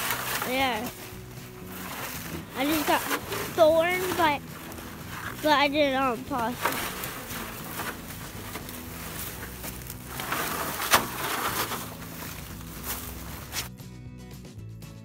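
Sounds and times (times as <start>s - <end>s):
footsteps crunching on snow: 0.0s - 13.7s
plastic crate scraping over ground: 0.0s - 13.7s.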